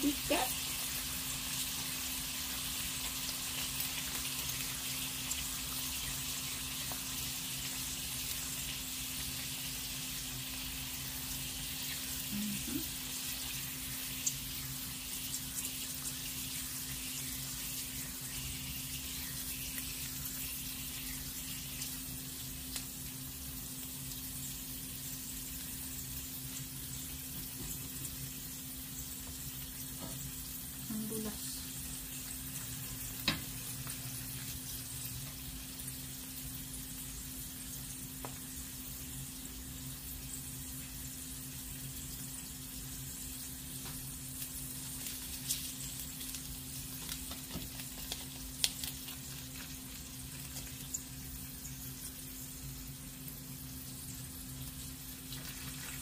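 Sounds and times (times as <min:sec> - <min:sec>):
eggs sizzling in oil: 0:00.0 - 0:56.0.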